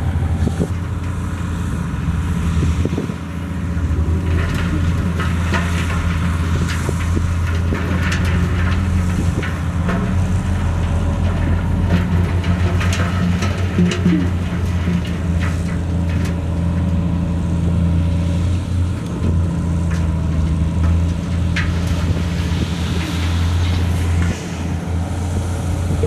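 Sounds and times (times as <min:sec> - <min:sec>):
heavy diesel engine running: 0:00.0 - 0:26.0
clattering and rattling: 0:03.8 - 0:24.7.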